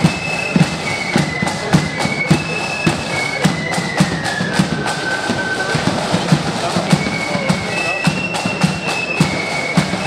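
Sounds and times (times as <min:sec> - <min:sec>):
flutes playing a melody: 0:00.0 - 0:10.0
steady drum beat: 0:00.0 - 0:10.0.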